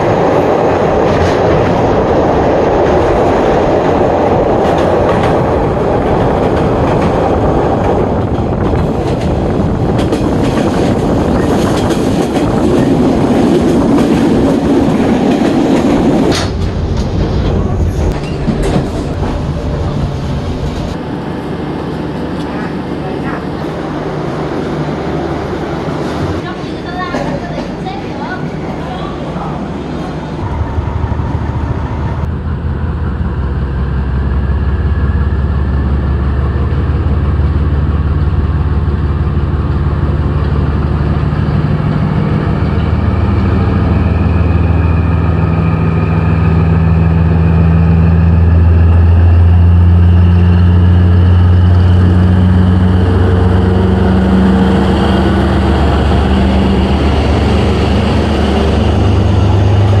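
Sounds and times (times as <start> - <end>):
diesel locomotive engine throbbing: 0.0 - 60.0.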